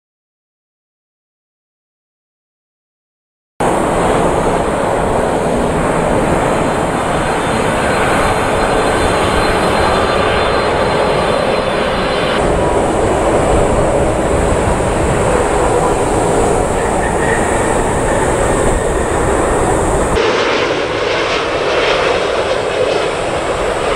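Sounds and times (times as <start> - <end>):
jet engines of landing airliner: 3.6 - 23.9.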